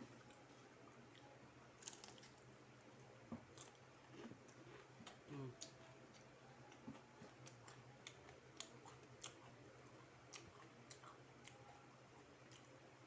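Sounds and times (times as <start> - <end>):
chewing crispy fried chicken: 0.2 - 2.6, 3.4 - 13.0.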